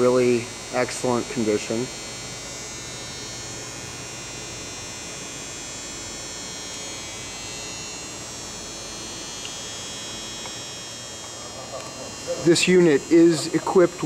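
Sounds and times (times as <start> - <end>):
drill press electrical hum: 0.0 - 14.0.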